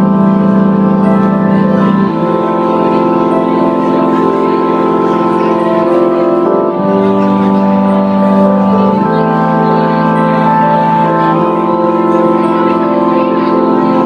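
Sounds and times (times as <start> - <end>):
sustained keyboard chords: 0.0 - 14.0.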